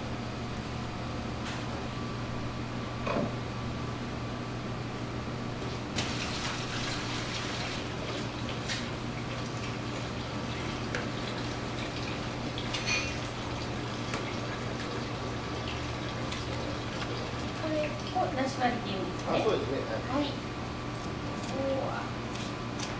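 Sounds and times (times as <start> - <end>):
ventilation hum: 0.0 - 22.9.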